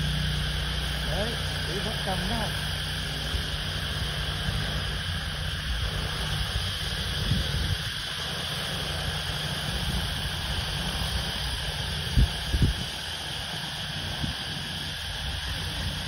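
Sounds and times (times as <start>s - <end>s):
drone rotors humming: 0.0s - 16.0s
wind buffeting microphone: 3.1s - 16.0s.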